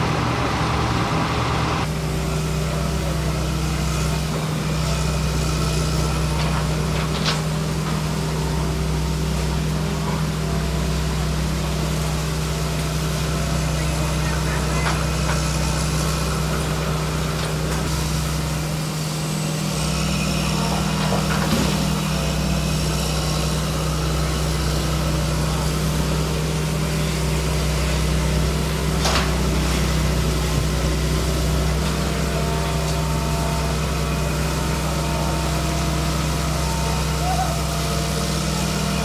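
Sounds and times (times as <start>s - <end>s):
heavy engine idling: 0.0s - 39.0s.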